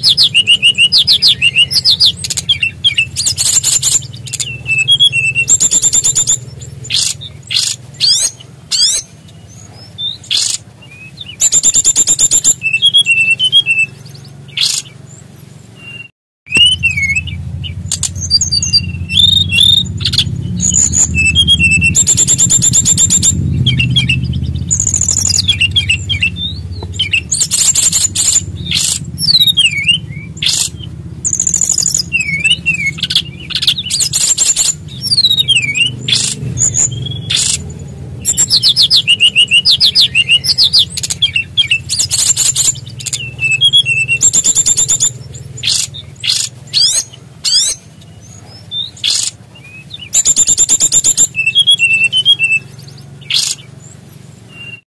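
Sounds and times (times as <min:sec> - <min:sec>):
songbird singing trills: 0:00.0 - 0:54.8
steady low hum: 0:00.0 - 0:54.8.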